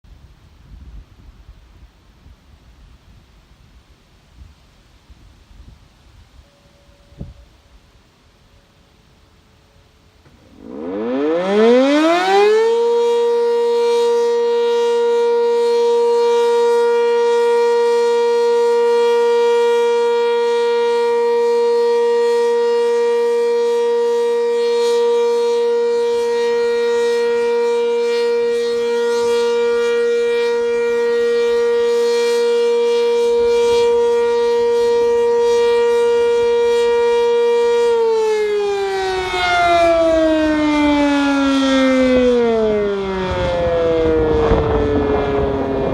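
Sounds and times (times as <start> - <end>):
warning siren: 6.3 - 45.9.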